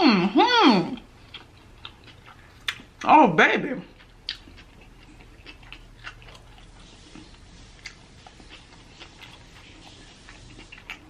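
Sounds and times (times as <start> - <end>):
chewing crunches: 1.2 - 3.1, 3.9 - 11.0.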